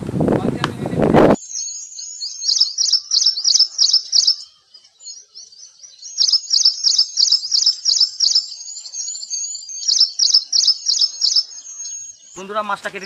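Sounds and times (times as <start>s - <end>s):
songbird chirping: 1.2s - 13.0s.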